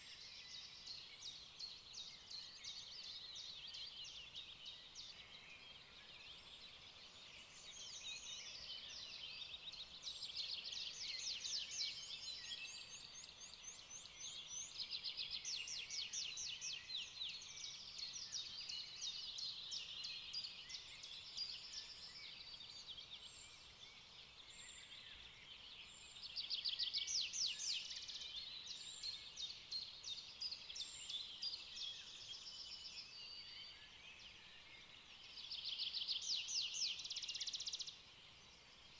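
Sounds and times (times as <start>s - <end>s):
small birds singing and trilling: 0.0s - 38.9s.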